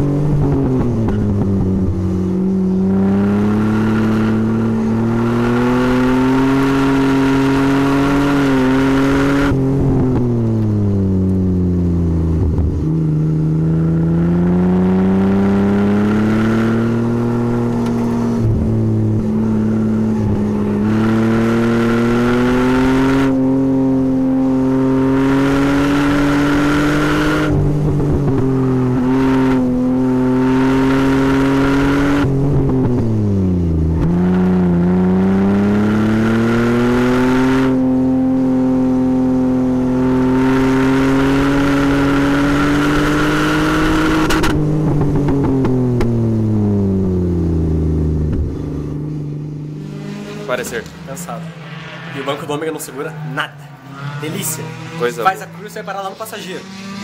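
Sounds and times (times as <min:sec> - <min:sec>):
car engine revving hard: 0:00.0 - 0:10.6, 0:12.3 - 0:57.0.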